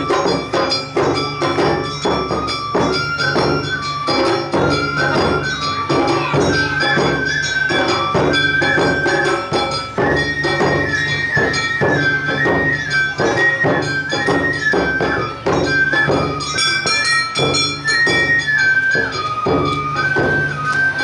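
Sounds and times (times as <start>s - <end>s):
bamboo flute melody: 0.0s - 21.0s
taiko drums beat: 0.0s - 21.0s.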